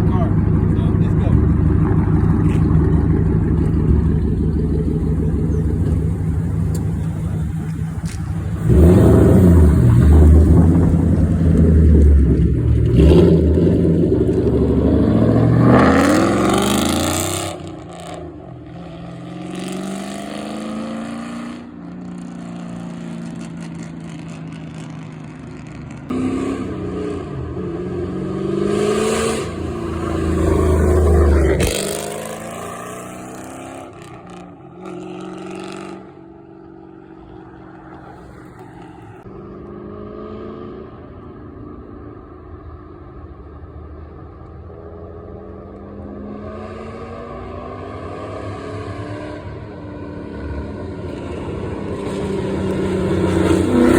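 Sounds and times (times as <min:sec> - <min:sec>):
car exhaust accelerating: 0:00.0 - 0:53.9.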